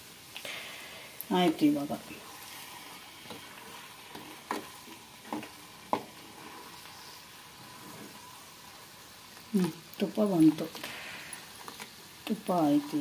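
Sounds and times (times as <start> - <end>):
butter sizzling in pot: 0.0 - 13.0.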